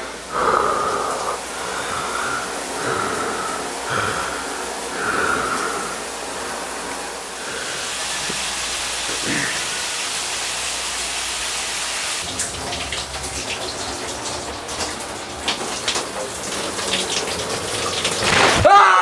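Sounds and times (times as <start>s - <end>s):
shower running: 0.0s - 19.0s.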